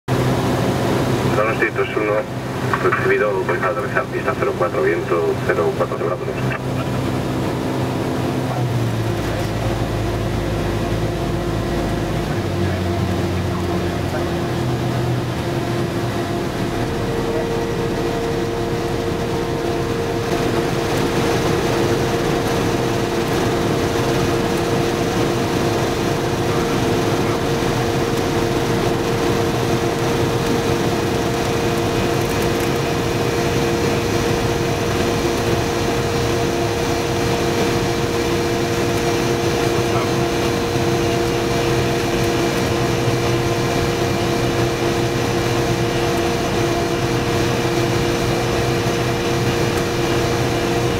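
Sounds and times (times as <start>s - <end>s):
propeller plane engine droning: 0.1s - 50.9s.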